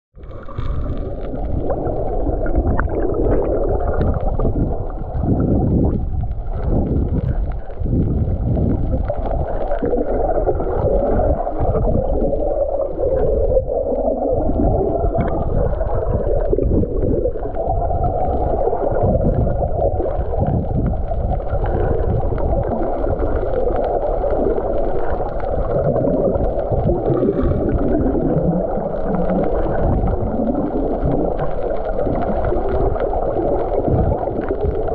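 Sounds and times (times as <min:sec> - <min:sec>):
underwater rushing and gurgling bubbles: 0:00.2 - 0:34.9.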